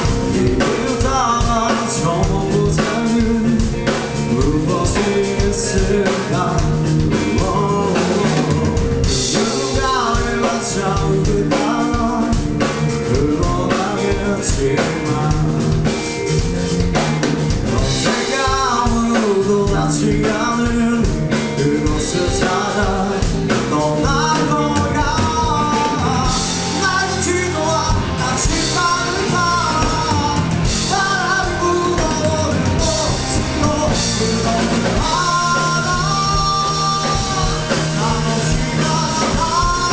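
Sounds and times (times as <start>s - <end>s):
lead singer: 0.0s - 39.9s
live rock band: 0.0s - 39.9s.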